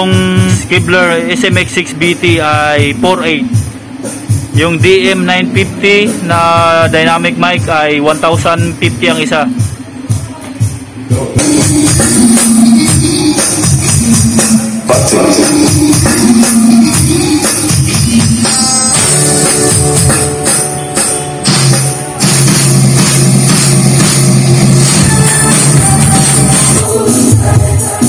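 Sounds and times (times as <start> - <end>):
music with drum kit: 0.0 - 28.0.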